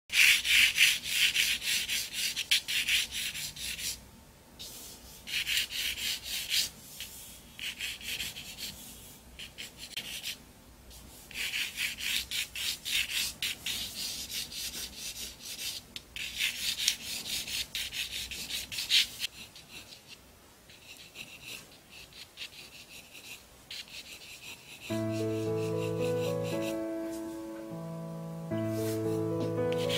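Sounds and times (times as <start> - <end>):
pencil scratching on paper: 0.1 - 4.0, 4.6 - 10.4, 11.3 - 27.4, 28.6 - 29.9.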